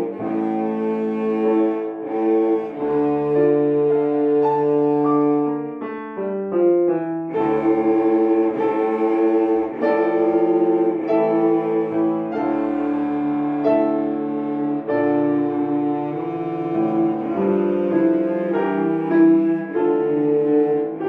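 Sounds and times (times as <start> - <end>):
cellos playing: 0.0 - 21.0
piano accompaniment: 0.0 - 21.0.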